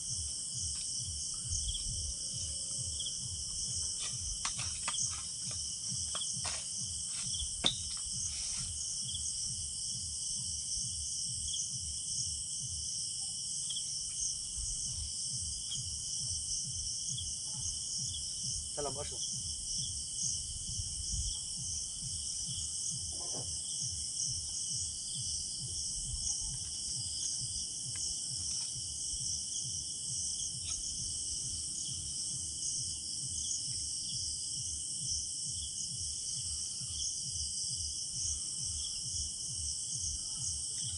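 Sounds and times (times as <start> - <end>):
crickets and night insects chirring: 0.0 - 40.9.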